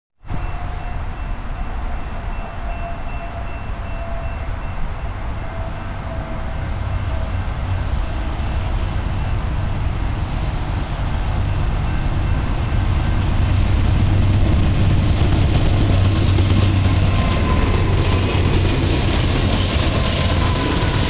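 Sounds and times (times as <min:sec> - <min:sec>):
diesel locomotives rumbling: 0:00.2 - 0:21.0.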